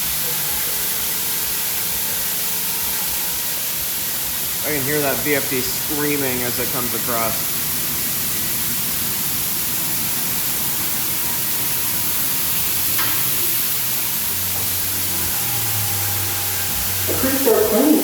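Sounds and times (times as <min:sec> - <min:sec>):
car wash water spray hissing: 0:00.0 - 0:18.0.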